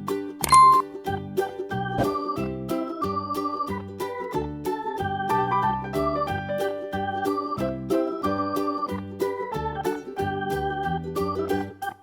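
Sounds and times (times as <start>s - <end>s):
upbeat electronic keyboard music: 0.4s - 12.0s.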